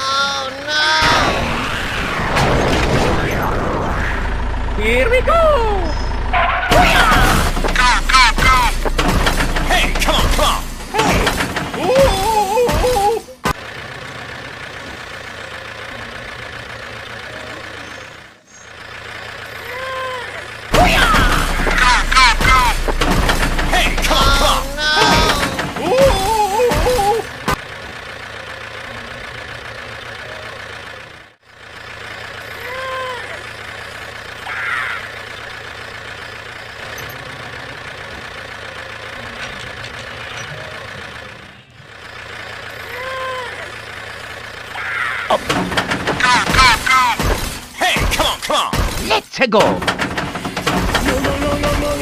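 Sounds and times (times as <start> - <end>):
small tractor engine running: 4.0 - 52.0.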